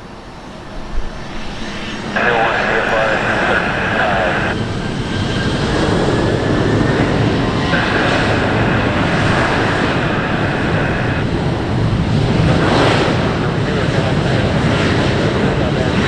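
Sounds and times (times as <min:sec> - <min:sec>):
high jet engine whine: 0:00.0 - 0:16.0
jet engines running: 0:00.0 - 0:16.0.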